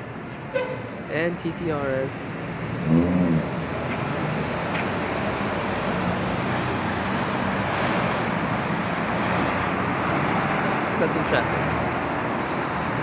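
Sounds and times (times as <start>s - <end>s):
idling car engines: 0.0s - 13.0s
road noise: 0.0s - 13.0s.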